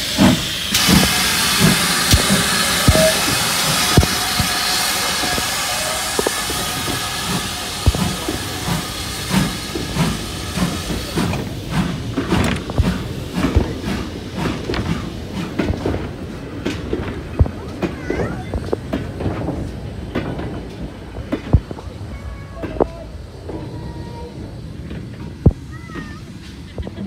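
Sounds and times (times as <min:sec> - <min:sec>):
train wheels clicking over rail joints: 0:00.0 - 0:23.8, 0:24.4 - 0:27.0
low rumble of train: 0:00.0 - 0:27.0
steam hissing: 0:00.0 - 0:27.0.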